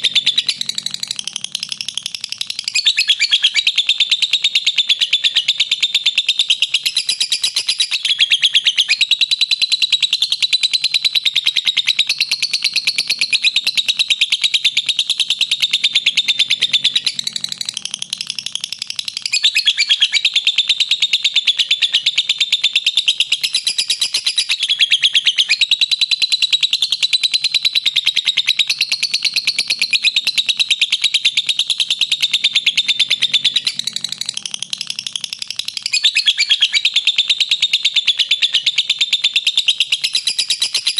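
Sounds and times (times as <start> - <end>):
lovebird chattering trill: 0.0 - 40.9.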